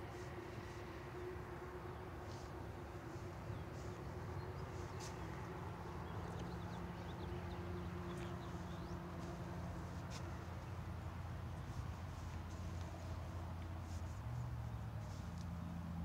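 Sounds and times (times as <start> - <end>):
steady low hum: 0.0 - 16.0
small birds chirping: 0.1 - 15.8.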